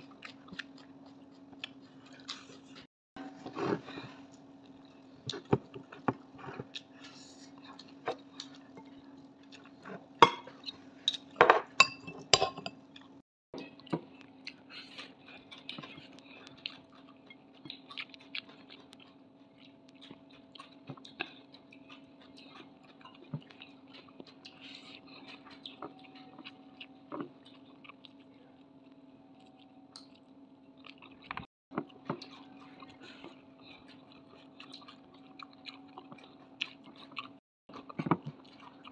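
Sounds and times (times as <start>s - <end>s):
person chewing food: 0.0s - 11.4s, 12.8s - 38.9s.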